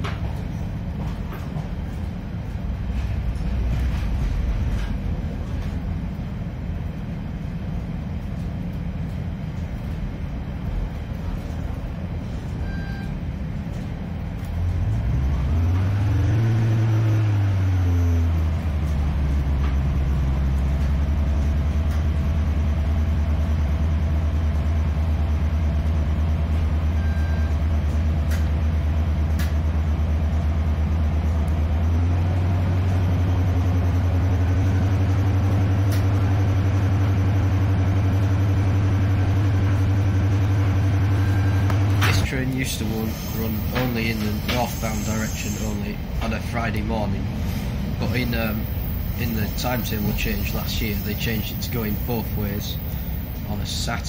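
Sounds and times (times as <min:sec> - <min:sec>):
train diesel engine droning: 0:00.0 - 0:54.0.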